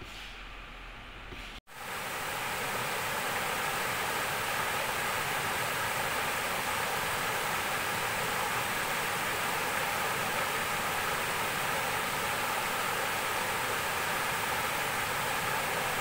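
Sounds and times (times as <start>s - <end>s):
stream rushing over rocks: 1.7s - 16.0s.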